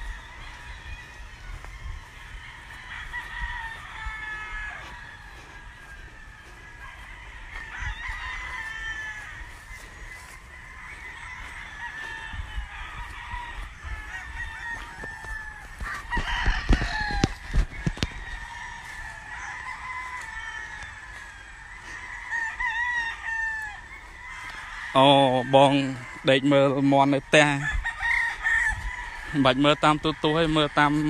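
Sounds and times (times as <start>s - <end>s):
roosters crowing: 0.0s - 31.0s.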